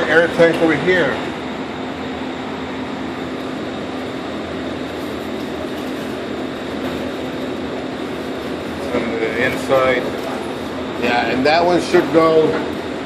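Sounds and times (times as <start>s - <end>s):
machinery hiss and hum: 0.0s - 13.0s.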